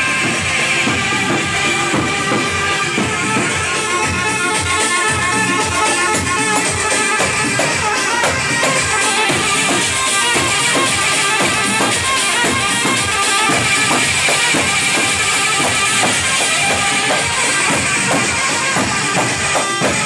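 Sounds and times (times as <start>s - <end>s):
fast drum beat: 0.0s - 20.0s
instrumental melody line: 0.0s - 20.0s.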